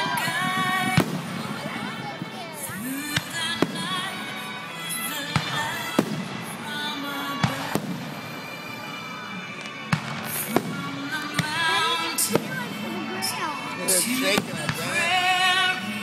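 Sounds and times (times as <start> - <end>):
fireworks bangs: 0.0 - 16.0
music playing: 0.0 - 16.0.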